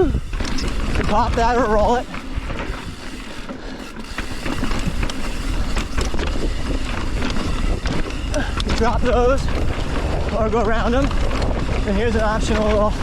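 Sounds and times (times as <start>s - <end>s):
bike knocks and rattles: 0.0s - 13.0s
tyres rolling over dirt and rock: 0.0s - 13.0s
wind rumble on microphone: 0.0s - 13.0s.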